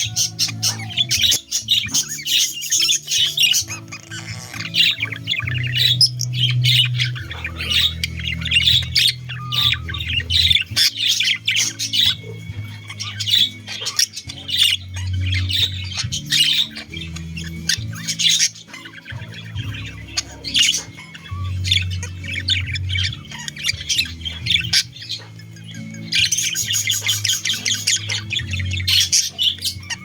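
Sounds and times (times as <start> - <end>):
background music: 0.0 - 30.0
budgerigars chattering and squawking: 0.0 - 30.0.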